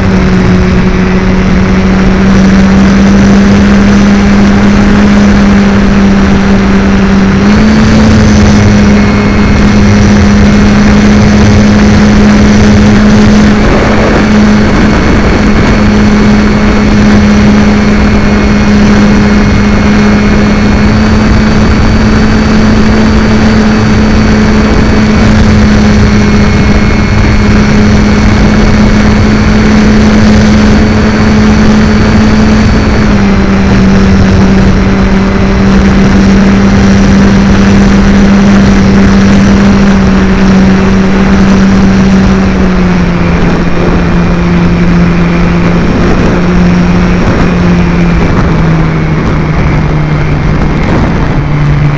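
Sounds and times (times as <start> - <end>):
model plane motor droning: 0.0 - 51.9
wind on microphone: 0.0 - 51.9.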